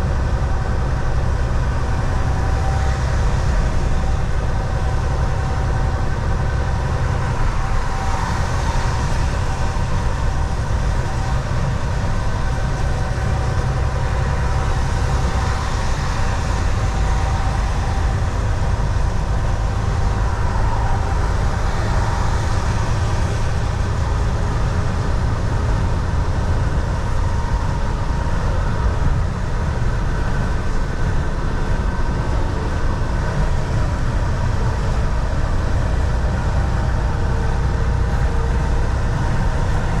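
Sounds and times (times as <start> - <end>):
faint steady whine: 0.0 - 40.0
truck engine and road rumble: 0.0 - 40.0.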